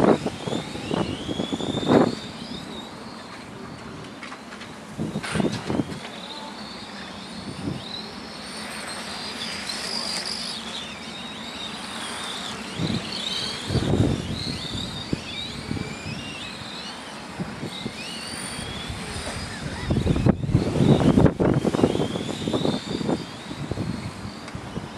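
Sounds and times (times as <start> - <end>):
model car motors whining: 0.0 - 24.9.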